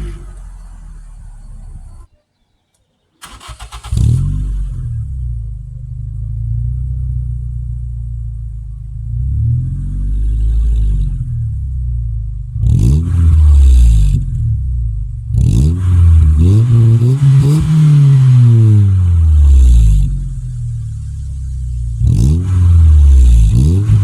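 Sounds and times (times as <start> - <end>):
car engine revving: 0.0 - 2.1, 3.2 - 24.0.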